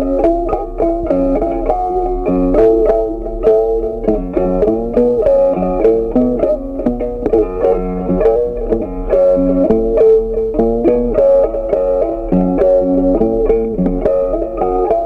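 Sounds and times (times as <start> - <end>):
plucked string instrument melody: 0.0 - 15.0
steady low bass tone: 0.0 - 15.0.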